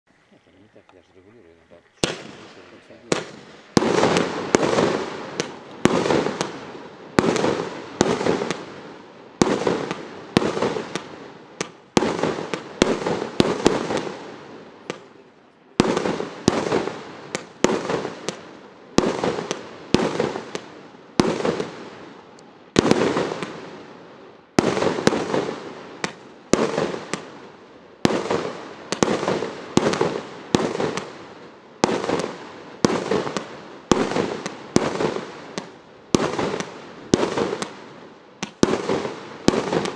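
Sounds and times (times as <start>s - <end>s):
fireworks shots with hiss: 0.1s - 39.9s.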